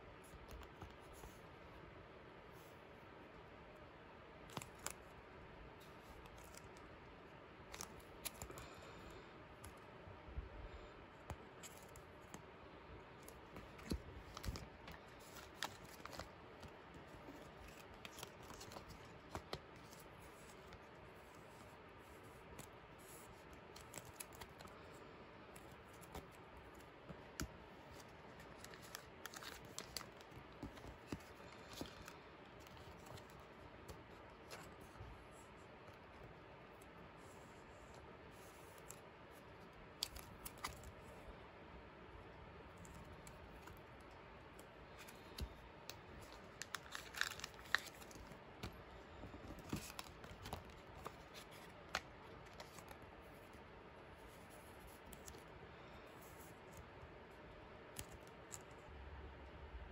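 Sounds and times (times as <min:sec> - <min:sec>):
plastic sleeves rustling and crinkling: 0:04.4 - 0:08.8, 0:11.1 - 0:41.3, 0:42.6 - 0:58.9
small crisp clicks and scrapes: 0:05.8 - 0:08.8, 0:11.0 - 0:41.2, 0:42.6 - 0:58.9.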